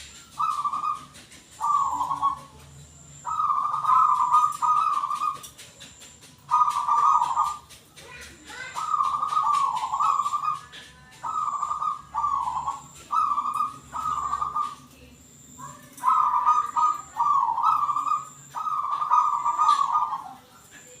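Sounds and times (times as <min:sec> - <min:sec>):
dove cooing: 0:00.0 - 0:15.0, 0:15.6 - 0:21.0.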